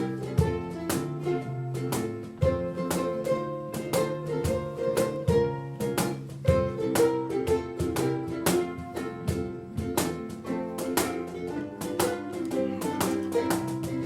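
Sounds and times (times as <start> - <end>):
ukulele ensemble playing: 0.0 - 14.0.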